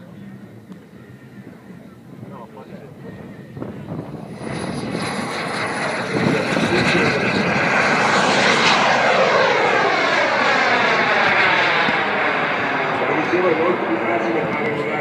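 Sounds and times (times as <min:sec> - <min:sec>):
model jet turbine engine: 0:00.0 - 0:15.0.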